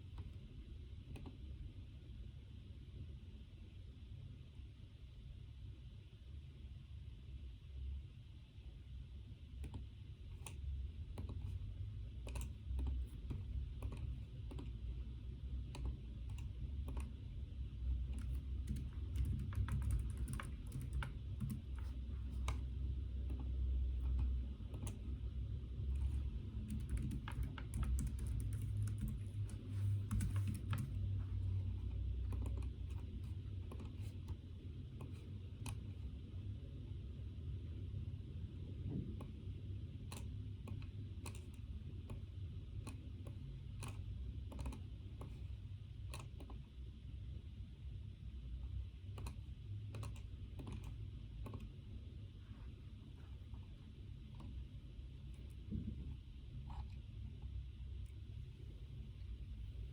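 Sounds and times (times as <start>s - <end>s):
low steady rumble: 0.0s - 59.9s.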